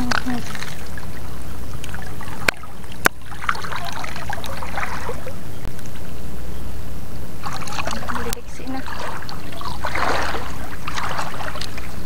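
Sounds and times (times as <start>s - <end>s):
seawater trickling and splashing: 0.0s - 6.1s, 7.4s - 12.0s.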